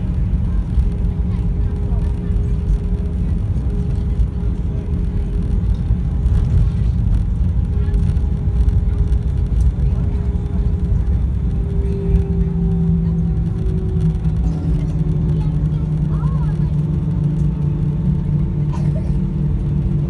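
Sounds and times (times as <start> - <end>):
jet engines and wheels rumbling: 0.0 - 20.0.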